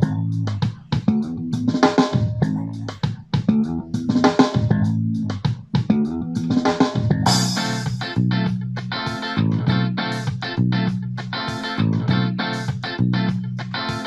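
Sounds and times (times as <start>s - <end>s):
rock song through small speaker: 0.0s - 14.0s.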